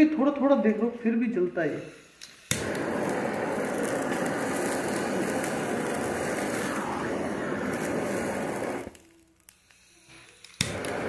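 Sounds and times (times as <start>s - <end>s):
blow torch hissing: 1.6s - 11.0s.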